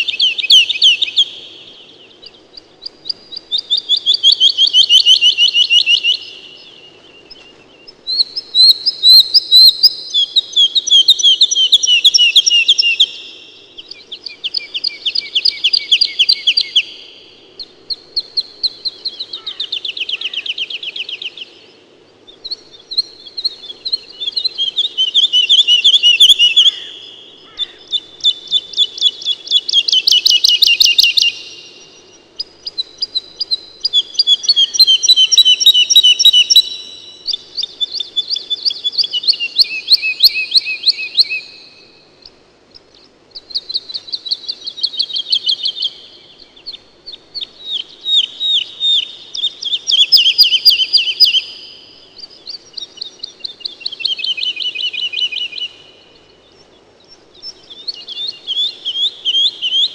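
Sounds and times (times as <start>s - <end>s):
songbird singing trilled phrases: 0.0s - 59.9s.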